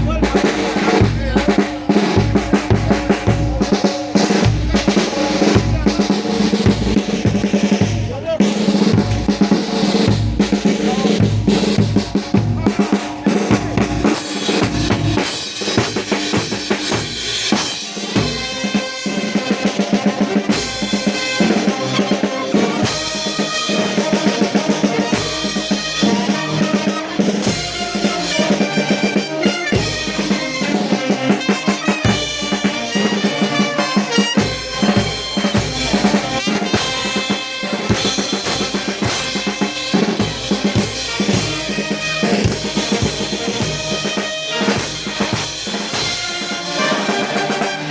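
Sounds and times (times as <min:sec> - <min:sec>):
drums beating fast: 0:00.0 - 0:47.9
trumpet melody: 0:00.0 - 0:47.9.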